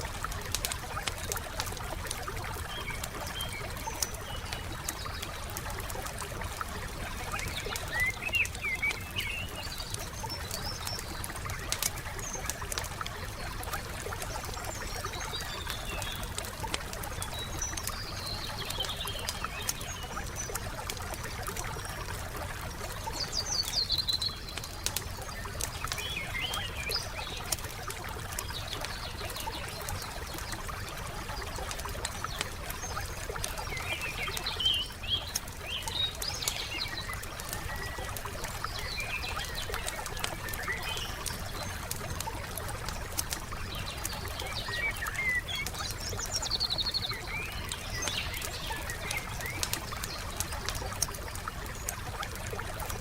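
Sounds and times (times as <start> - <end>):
songbirds chirping: 0.0 - 53.0
wood fire crackling: 0.0 - 53.0.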